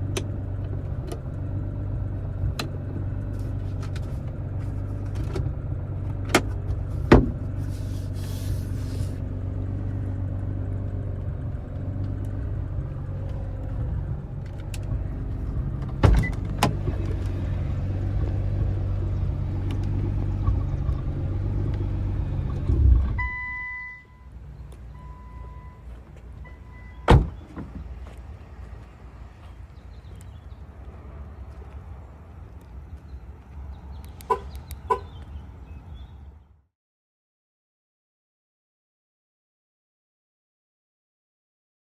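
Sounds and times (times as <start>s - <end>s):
car engine idling: 0.0s - 36.1s.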